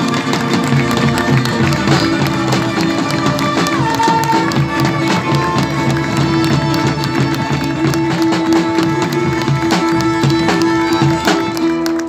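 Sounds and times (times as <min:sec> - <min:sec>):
drums keeping fast beat: 0:00.0 - 0:12.0.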